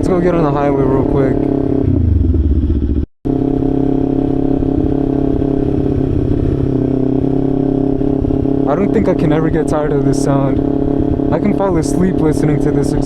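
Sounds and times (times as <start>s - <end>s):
motorcycle engine running loud: 0.0s - 13.0s.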